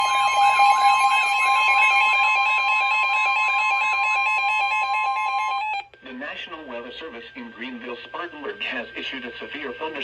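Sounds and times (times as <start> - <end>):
steady two-pitch alarm tone: 0.0 - 10.0.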